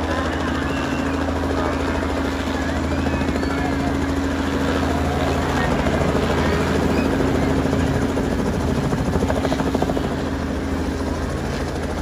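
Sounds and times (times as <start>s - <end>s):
helicopter engine hum: 0.0s - 12.0s.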